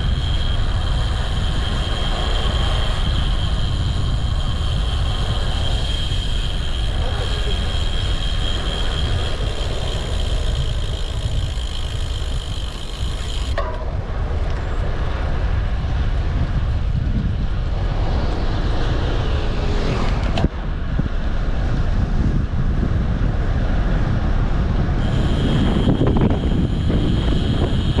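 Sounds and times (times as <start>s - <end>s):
bike road noise: 0.0s - 28.0s
high whine: 0.0s - 28.0s
wind buffeting microphone: 0.0s - 28.0s.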